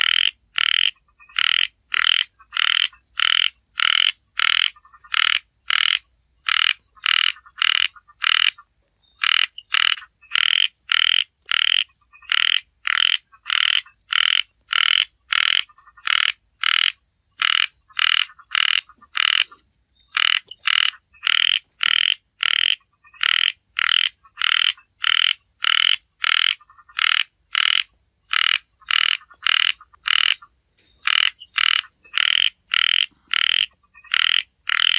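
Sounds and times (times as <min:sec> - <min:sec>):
frog croaking: 0:00.0 - 0:34.9.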